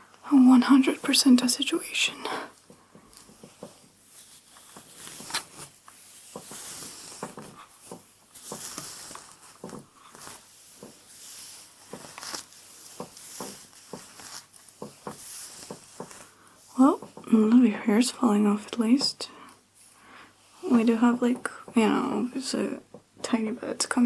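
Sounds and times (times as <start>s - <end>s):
hair rustling and crackling: 0.6s - 24.0s.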